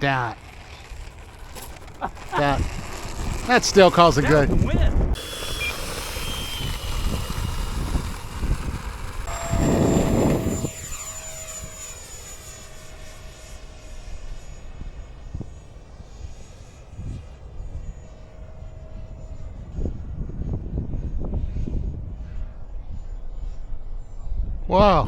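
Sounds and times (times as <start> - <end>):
model jet whining in flight: 0.0 - 24.7
wind buffeting microphone: 0.0 - 25.0.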